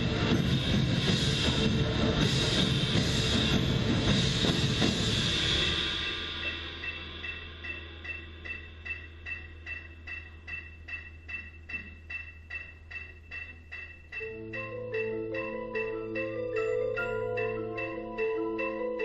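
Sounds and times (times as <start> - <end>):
steady ticking: 0.0 - 19.0
marimba low notes: 0.2 - 19.0.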